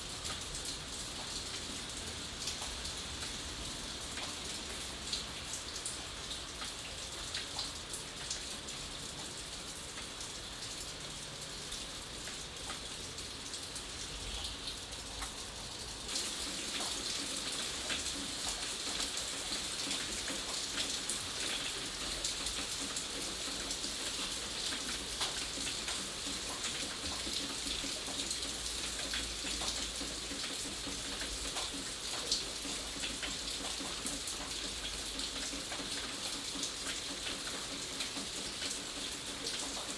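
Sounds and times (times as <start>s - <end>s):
raindrops ticking close by: 0.0s - 39.9s
steady rainfall hiss: 0.0s - 39.9s.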